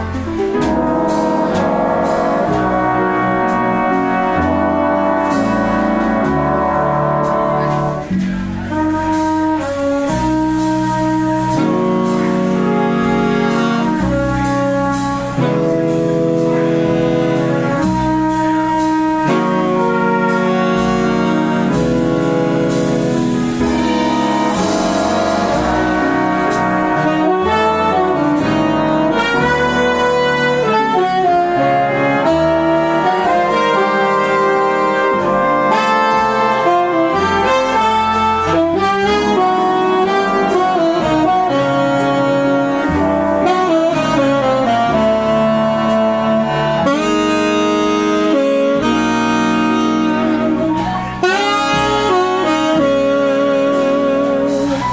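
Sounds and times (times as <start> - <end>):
big band horn section playing: 0.0 - 54.9.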